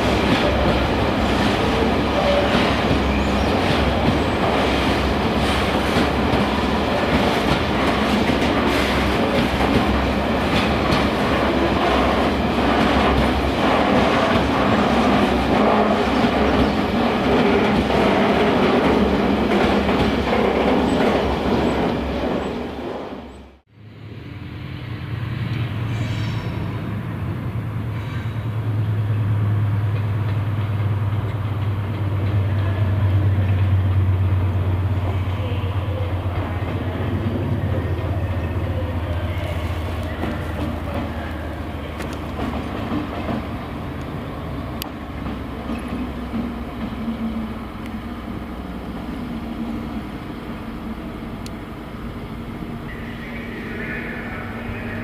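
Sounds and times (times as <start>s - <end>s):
train wheels clattering over rails: 0.0s - 23.3s, 27.2s - 49.7s
locomotive humming: 0.0s - 55.0s.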